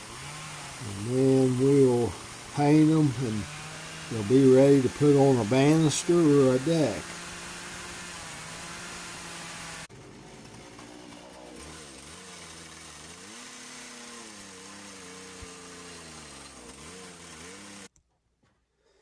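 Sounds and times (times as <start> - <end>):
chainsaw revving while carving wood: 0.0 - 17.9.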